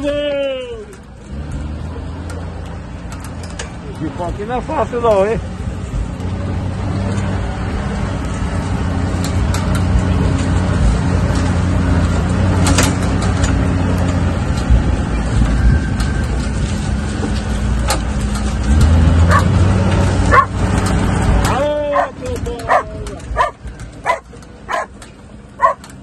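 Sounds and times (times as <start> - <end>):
knocks and rattles over bumps: 0.0 - 26.0
off-road vehicle engine running: 0.0 - 26.0.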